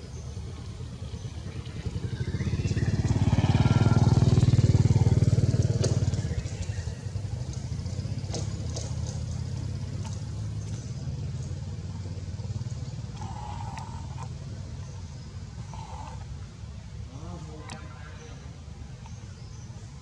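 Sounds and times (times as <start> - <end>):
motor engine running: 0.0 - 17.8.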